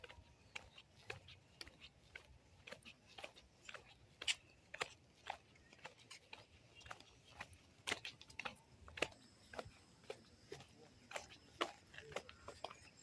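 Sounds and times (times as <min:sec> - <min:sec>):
footsteps scuffing on road: 0:00.0 - 0:13.0.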